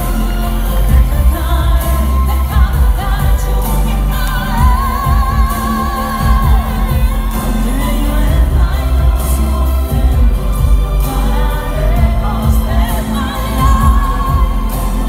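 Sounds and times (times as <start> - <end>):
amplified backing track with bass: 0.0 - 15.0
woman singing pop ballad: 0.0 - 15.0.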